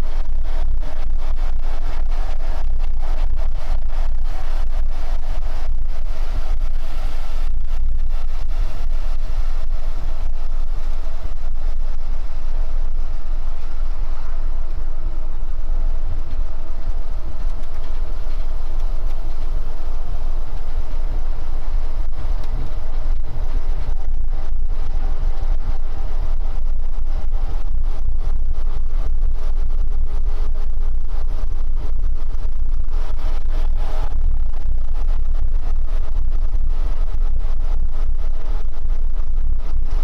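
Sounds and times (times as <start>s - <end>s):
engine and road rumble: 0.0s - 40.0s.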